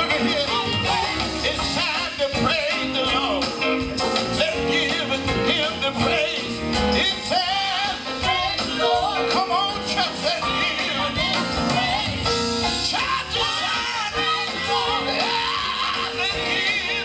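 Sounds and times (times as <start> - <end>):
drums: 0.0 - 17.0
gospel group singing: 0.0 - 17.0
keyboard: 0.0 - 17.0.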